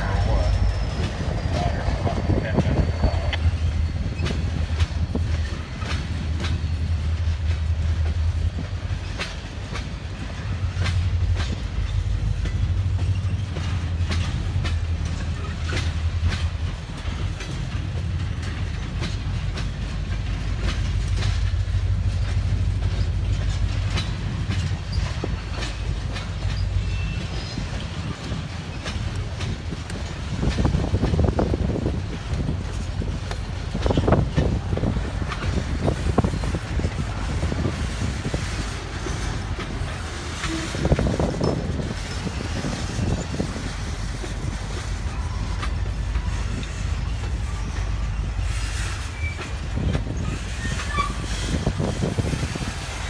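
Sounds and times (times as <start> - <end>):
freight train rumble: 0.0 - 53.0
wheels clicking over rail joints: 0.0 - 53.0.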